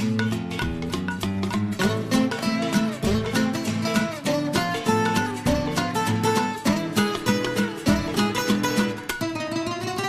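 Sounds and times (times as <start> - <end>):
plucked theme music: 0.0 - 10.0.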